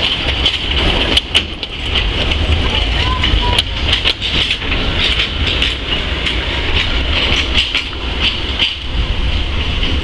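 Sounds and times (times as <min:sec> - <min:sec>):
sharp clicks of train on track: 0:00.0 - 0:10.0
steam train rumbling and hissing: 0:00.0 - 0:10.0.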